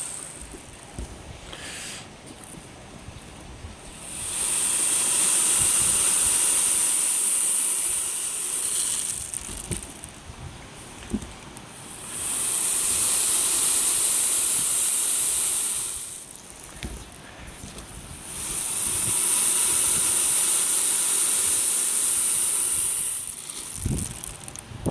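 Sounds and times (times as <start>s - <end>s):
dried seeds rolling hiss: 0.0s - 1.0s, 1.6s - 24.7s.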